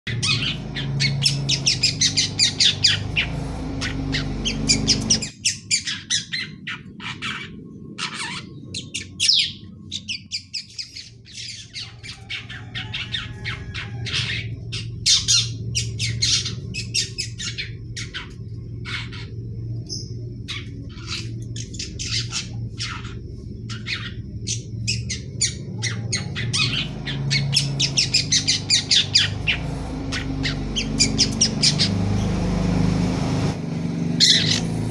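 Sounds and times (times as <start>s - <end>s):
bird chattering high calls: 0.1s - 32.3s, 34.2s - 34.7s
low steady hum: 0.1s - 34.9s.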